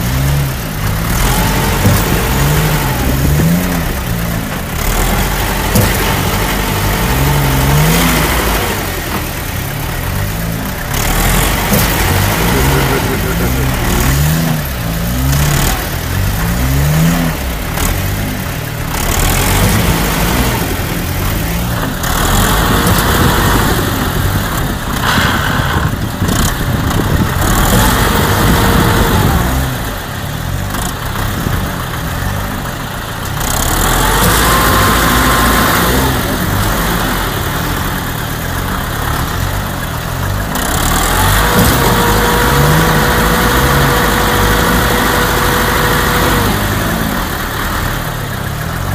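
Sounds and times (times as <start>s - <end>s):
engines revving: 0.0s - 48.9s.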